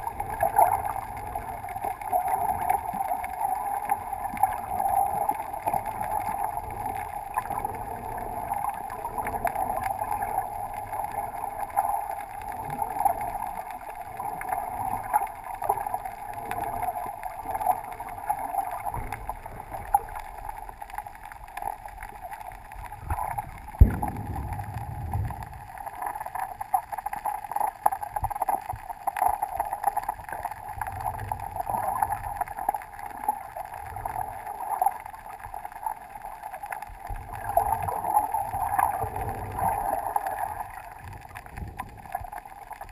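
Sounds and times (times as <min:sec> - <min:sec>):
faint clicks and crackles: 0:00.0 - 0:42.9
muffled underwater hiss: 0:00.0 - 0:42.9.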